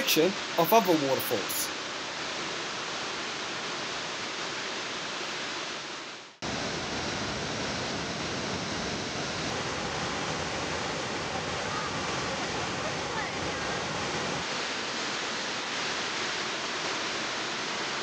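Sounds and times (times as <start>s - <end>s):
deep waterfall rush: 0.0s - 18.0s
distant waterfall rushing: 0.0s - 18.0s.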